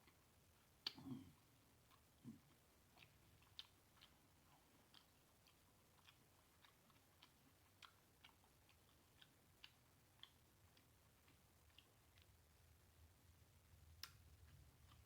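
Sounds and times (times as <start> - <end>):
chewing and lip smacking: 0.0 - 12.7, 13.9 - 15.0.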